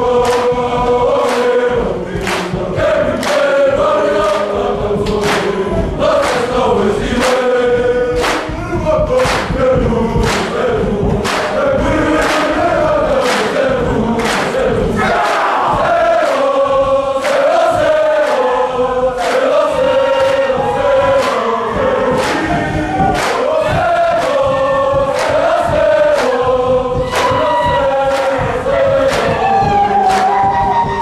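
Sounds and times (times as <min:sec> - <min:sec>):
students singing together: 0:00.0 - 0:31.0
sharp handclaps: 0:00.2 - 0:16.6, 0:17.2 - 0:18.5, 0:19.2 - 0:21.6, 0:22.2 - 0:31.0.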